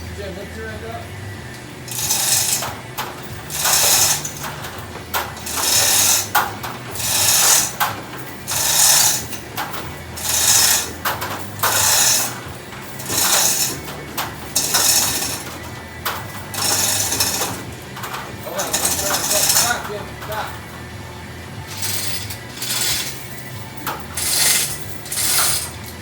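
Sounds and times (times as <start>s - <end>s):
hoist ratchet clicks and chain: 1.9s - 20.8s, 21.7s - 26.0s.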